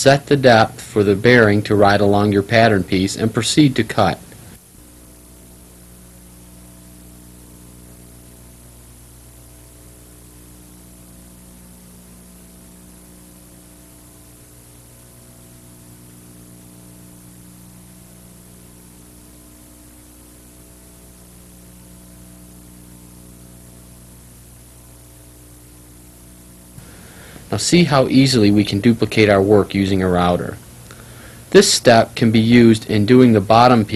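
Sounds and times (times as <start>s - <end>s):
electrical hum: 0.0s - 33.9s
tape hiss: 0.0s - 33.9s.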